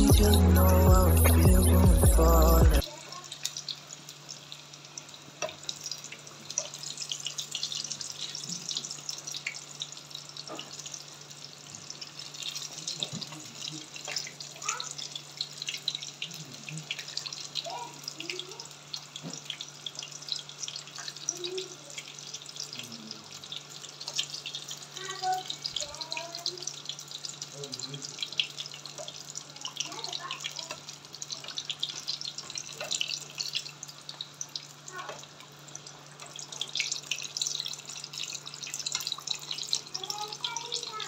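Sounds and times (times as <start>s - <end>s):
deep-frying sizzle with pops: 2.8s - 41.0s.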